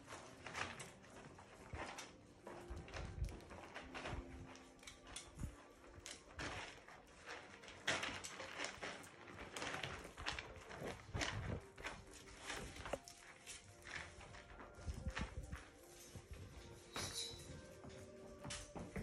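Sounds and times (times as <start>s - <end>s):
puppies scuffling: 0.0s - 19.0s.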